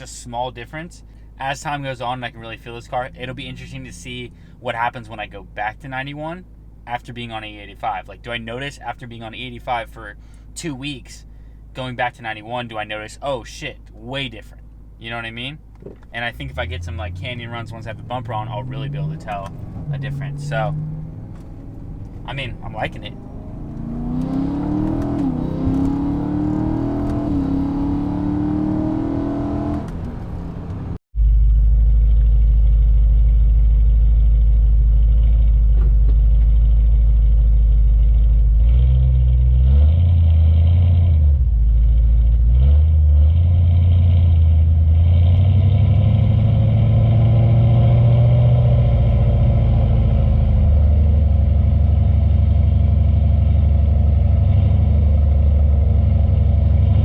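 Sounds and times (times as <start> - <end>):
car engine and exhaust: 0.0 - 57.0
deep engine drone: 0.8 - 7.0, 13.8 - 57.0.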